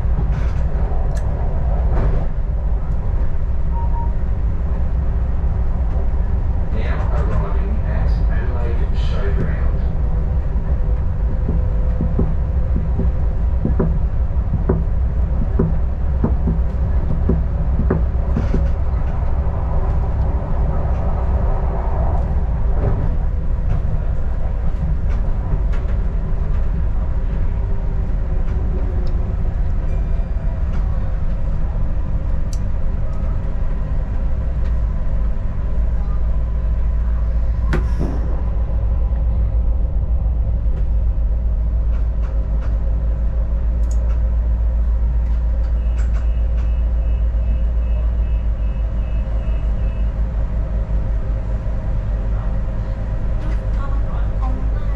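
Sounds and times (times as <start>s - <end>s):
diesel railcar rumbling: 0.0s - 54.9s.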